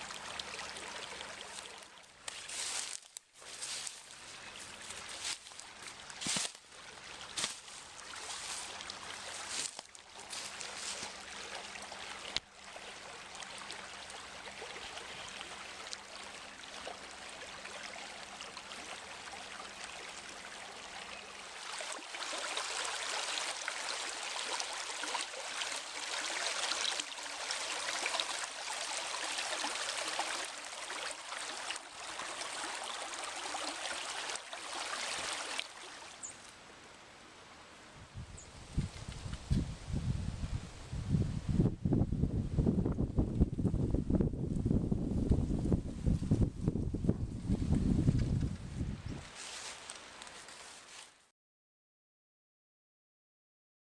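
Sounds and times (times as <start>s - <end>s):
small stream running water: 0.0s - 41.0s, 47.6s - 51.3s.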